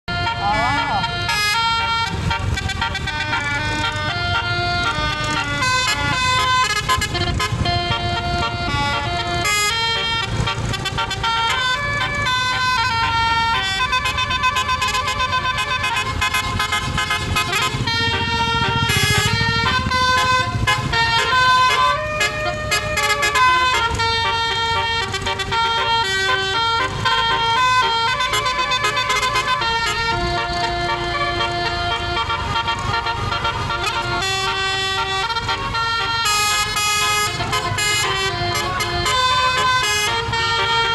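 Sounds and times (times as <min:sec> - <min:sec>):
bus air horns playing a tune: 0:00.0 - 0:40.9.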